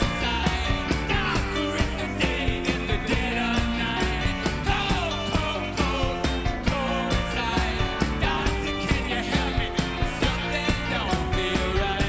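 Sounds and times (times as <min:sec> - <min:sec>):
rock band playing live: 0:00.0 - 0:12.0
steady drum beat: 0:00.0 - 0:12.0.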